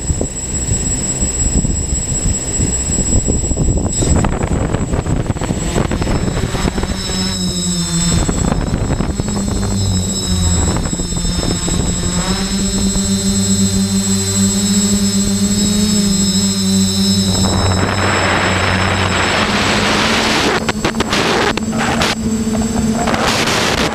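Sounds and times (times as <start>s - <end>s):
high motor whine: 0.0s - 23.9s
quadcopter propellers humming: 0.0s - 23.9s.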